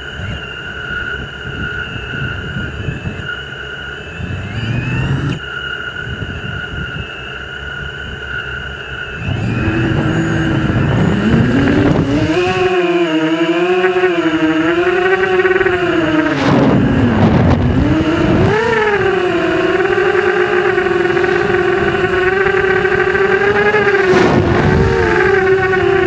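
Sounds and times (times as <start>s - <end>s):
rush of wind noise: 0.0s - 5.4s, 6.0s - 7.1s, 7.8s - 26.0s
drone motors whining: 0.0s - 26.0s.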